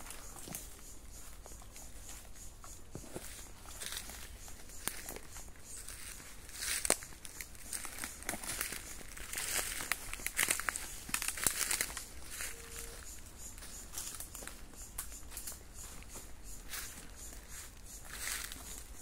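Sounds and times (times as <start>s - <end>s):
footsteps crunching dry leaves: 3.0s - 19.0s.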